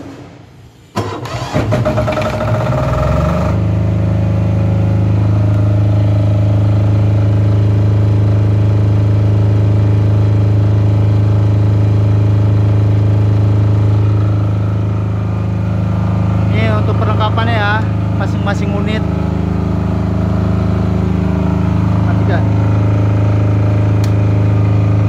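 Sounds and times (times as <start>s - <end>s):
diesel generator running: 0.0s - 25.0s.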